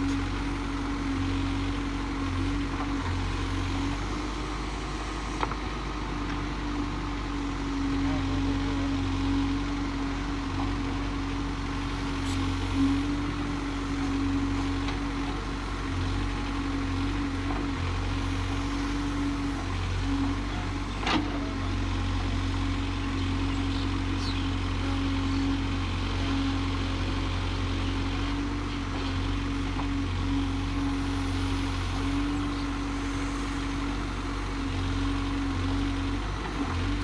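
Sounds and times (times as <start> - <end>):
diesel engine humming: 0.0 - 37.0.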